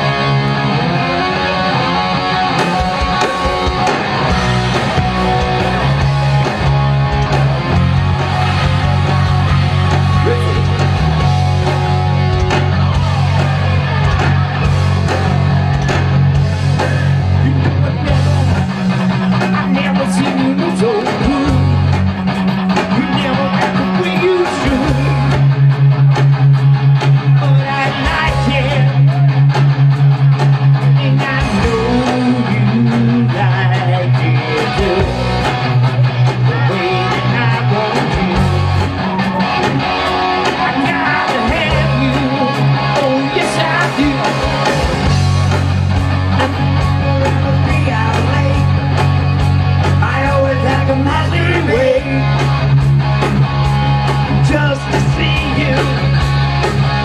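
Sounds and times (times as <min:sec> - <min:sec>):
bass guitar low notes: 0:00.0 - 0:57.0
drums: 0:00.0 - 0:57.0
electric guitars: 0:00.0 - 0:57.0.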